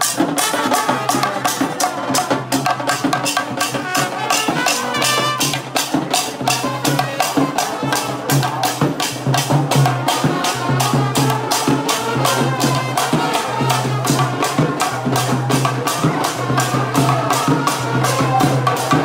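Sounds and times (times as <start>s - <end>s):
sharp percussion strokes: 0.0s - 19.0s.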